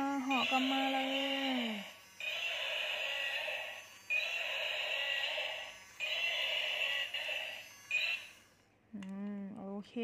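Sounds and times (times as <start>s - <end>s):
toy electronic roar sound effect: 0.0s - 8.6s.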